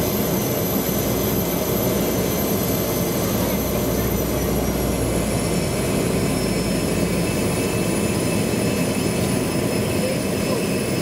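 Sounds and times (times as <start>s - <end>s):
high turbine whine: 0.0s - 11.0s
turboprop engine drone: 0.0s - 11.0s.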